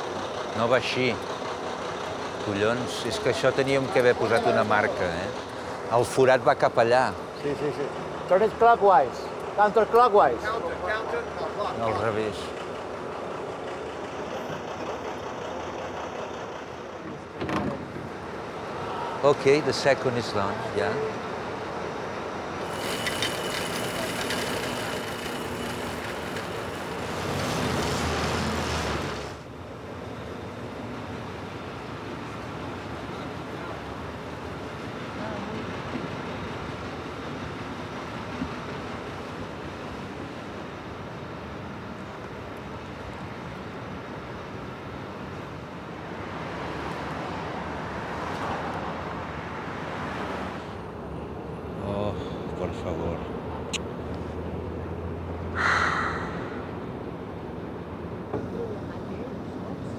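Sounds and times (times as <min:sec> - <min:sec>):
rumbling city noise: 0:00.0 - 0:59.9.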